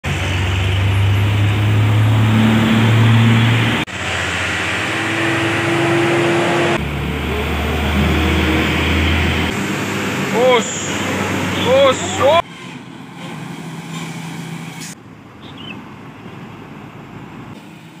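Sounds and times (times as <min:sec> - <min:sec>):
truck engines passing by: 0:00.0 - 0:18.0.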